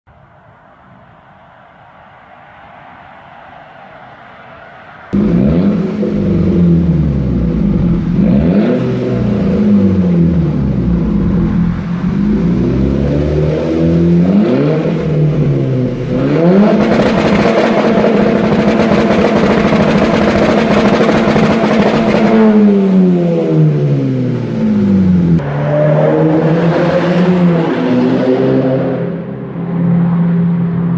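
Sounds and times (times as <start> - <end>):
car engine revving: 5.1 - 30.9.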